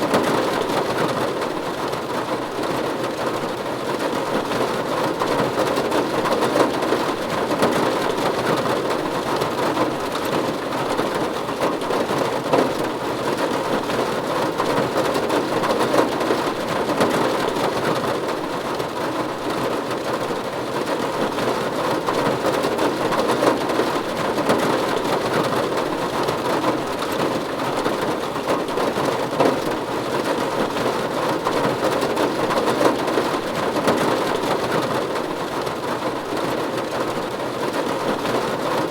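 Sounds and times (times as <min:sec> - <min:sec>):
rain drumming on a roof: 0:00.0 - 0:38.9.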